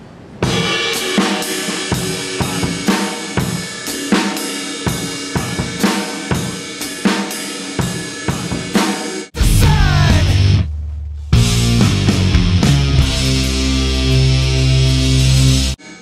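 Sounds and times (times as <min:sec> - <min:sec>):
ringing cymbals and hi-hat: 0:00.4 - 0:10.5, 0:11.4 - 0:16.0.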